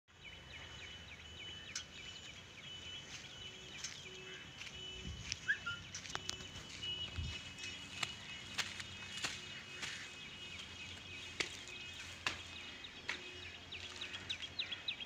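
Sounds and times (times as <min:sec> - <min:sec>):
steady high-pitched tone: 0:00.1 - 0:12.5
birds chirping: 0:00.1 - 0:15.0.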